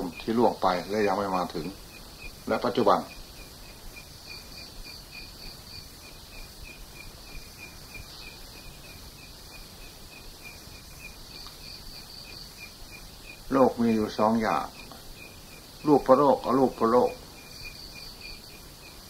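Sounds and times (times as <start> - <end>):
constant hiss: 0.0 - 19.0
crickets chirping: 0.0 - 19.0
higher chirping: 0.0 - 19.0.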